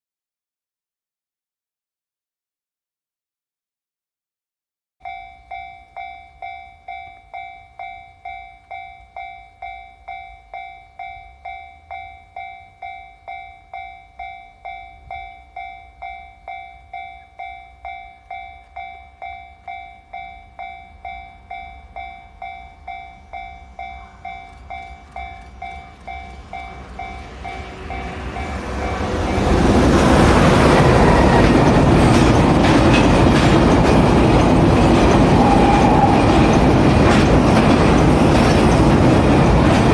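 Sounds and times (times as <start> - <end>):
level-crossing bell dinging: 5.0 - 39.9
train wheels on rails: 5.5 - 39.9.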